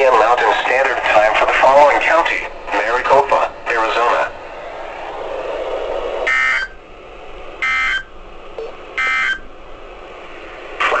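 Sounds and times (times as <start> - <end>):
broadcast hiss: 0.0 - 11.0.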